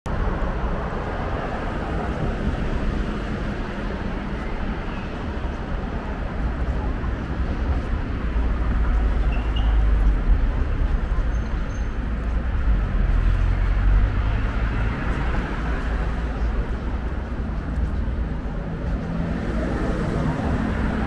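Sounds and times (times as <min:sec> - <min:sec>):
road traffic rumble: 0:00.1 - 0:21.0.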